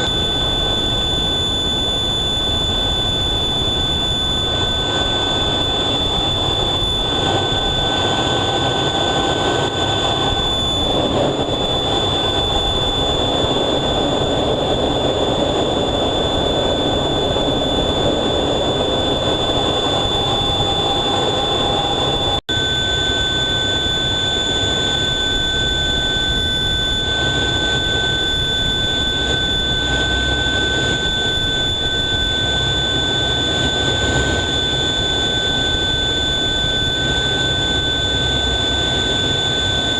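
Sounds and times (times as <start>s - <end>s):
jet engines whining and rumbling: 0.0s - 39.9s.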